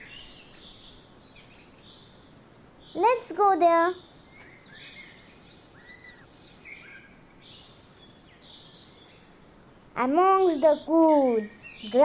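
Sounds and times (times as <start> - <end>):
faint birds chirping: 0.0 - 12.0
outdoor background noise: 0.0 - 12.0.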